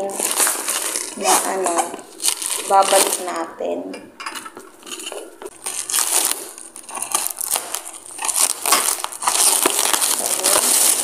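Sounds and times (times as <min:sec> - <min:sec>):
plastic wrap crinkling: 0:00.0 - 0:03.5, 0:04.4 - 0:11.0.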